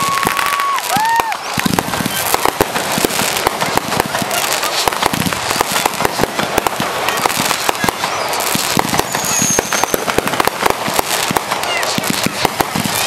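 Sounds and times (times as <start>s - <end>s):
firework whistle: 0.0s - 13.0s
fireworks crackling and banging: 0.0s - 13.0s.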